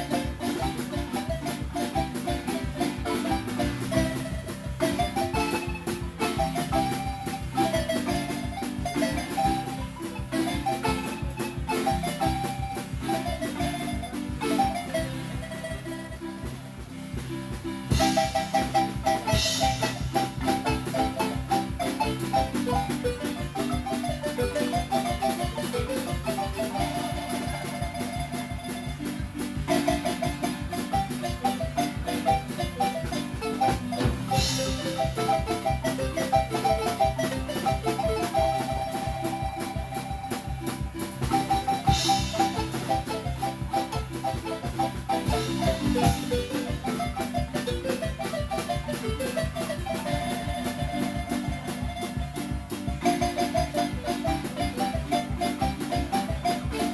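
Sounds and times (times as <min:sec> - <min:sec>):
marimba melody: 0:00.0 - 0:56.9.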